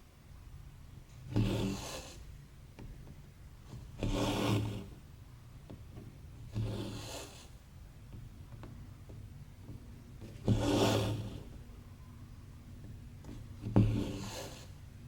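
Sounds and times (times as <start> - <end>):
thread rasping through fabric: 1.1 - 5.1, 5.7 - 11.7, 12.7 - 15.0.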